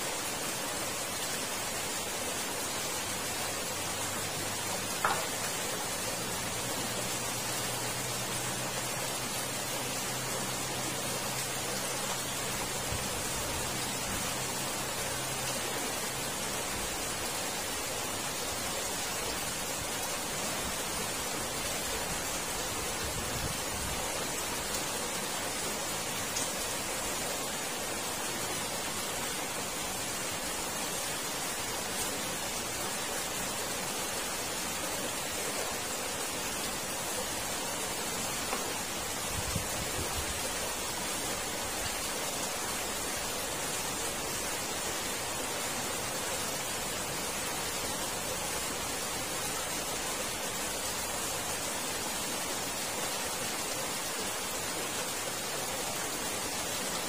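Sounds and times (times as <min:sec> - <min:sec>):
water rushing in culvert: 0:00.0 - 0:57.0.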